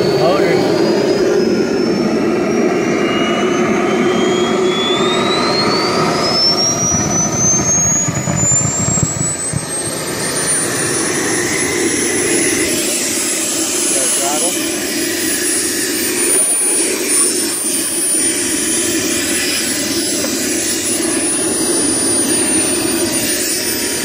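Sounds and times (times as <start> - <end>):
gas turbine engine whining: 0.0 - 24.0.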